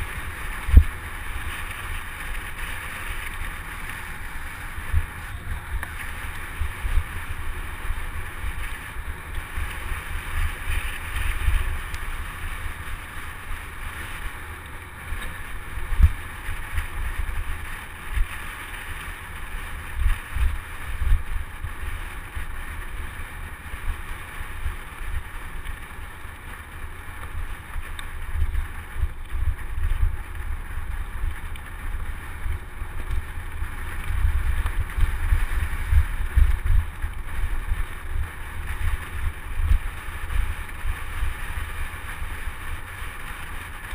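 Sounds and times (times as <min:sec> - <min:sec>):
bike tyres rolling on dirt: 0:00.0 - 0:43.9
wind buffeting microphone: 0:00.0 - 0:43.9.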